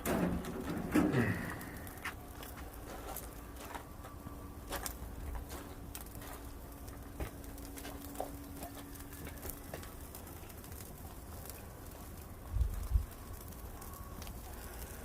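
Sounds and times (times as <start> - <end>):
faint steady hum: 0.0 - 15.0
wood fire crackling: 0.0 - 15.0.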